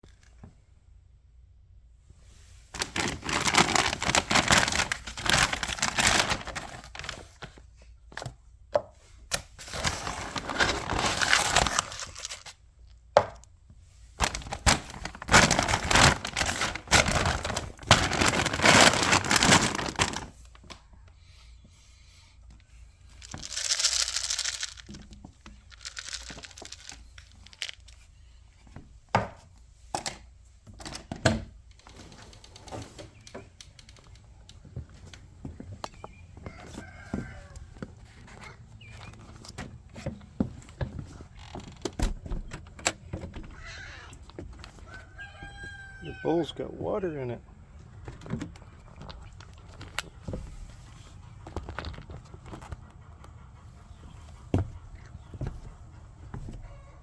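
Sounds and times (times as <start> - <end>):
rustling and crinkling handling noise: 2.1 - 45.8, 46.5 - 57.0.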